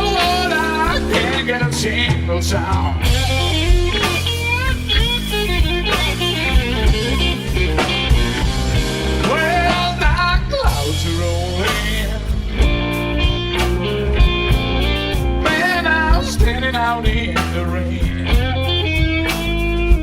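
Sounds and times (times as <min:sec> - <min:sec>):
electric blues band playing: 0:00.0 - 0:20.0
lead guitar with bent notes: 0:00.0 - 0:20.0.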